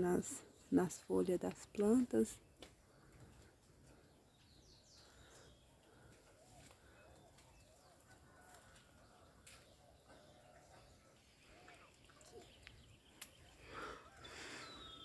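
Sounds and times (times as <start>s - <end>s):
distant bird calling: 2.8s - 15.0s.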